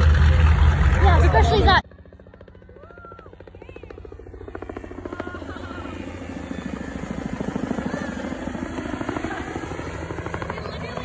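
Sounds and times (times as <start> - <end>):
helicopter rotor chop: 0.0 - 11.0
low engine rumble: 0.0 - 11.0.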